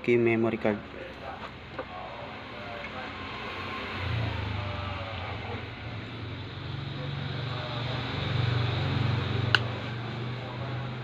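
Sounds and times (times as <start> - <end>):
engine droning: 0.5 - 11.0.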